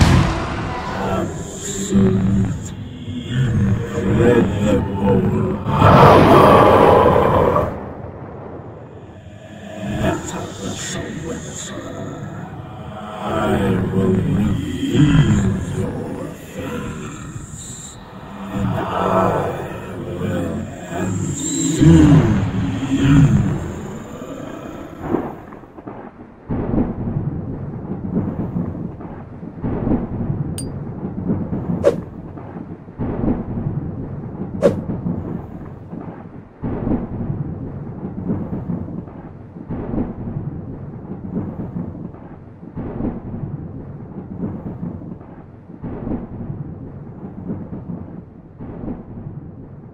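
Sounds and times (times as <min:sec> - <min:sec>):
deep rumbling booms: 0:00.0 - 0:49.9.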